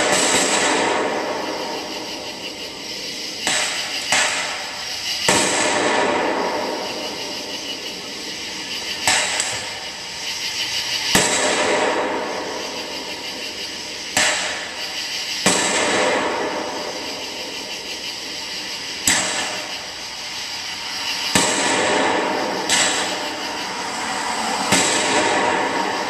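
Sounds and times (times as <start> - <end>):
firework shells bursting with echo: 0.0 - 26.0.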